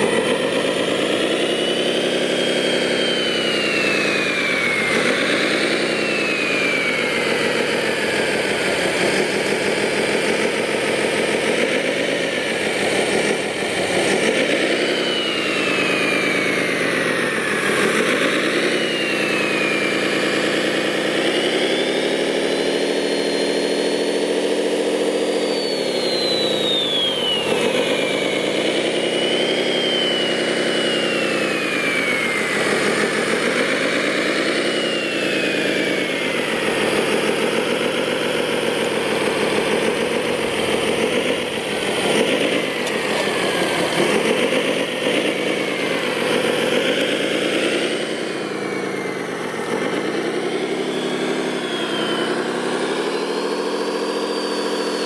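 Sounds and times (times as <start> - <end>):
high rising and falling whine: 0.0 - 55.0
model loader engine revving: 0.0 - 55.0.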